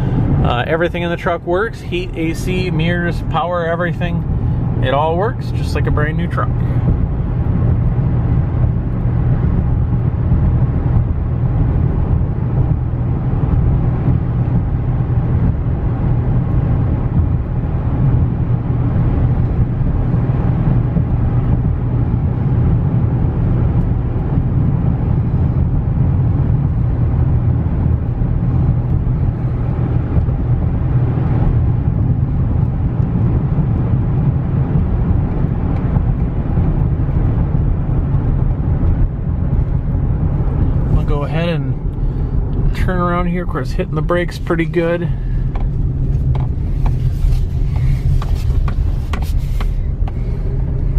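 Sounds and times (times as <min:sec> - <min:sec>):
road and engine rumble in cab: 0:00.0 - 0:50.9.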